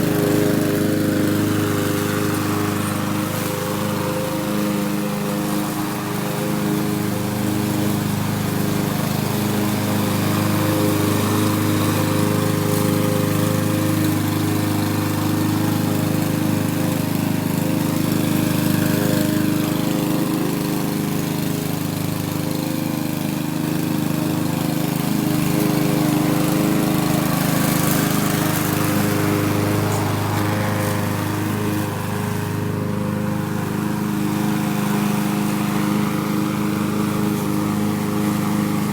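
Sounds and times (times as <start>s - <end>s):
lawn mower running: 0.0s - 38.9s.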